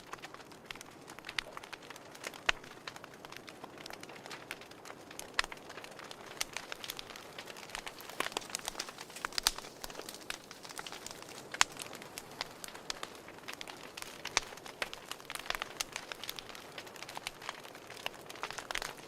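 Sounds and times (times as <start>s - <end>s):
fire crackling and popping: 0.0s - 19.0s
soft hiss of fire: 0.0s - 19.0s.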